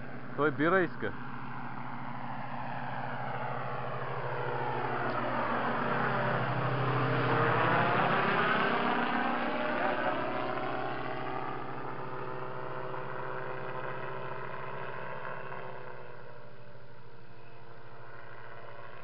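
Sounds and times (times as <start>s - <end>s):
microlight engine droning: 0.0s - 19.0s.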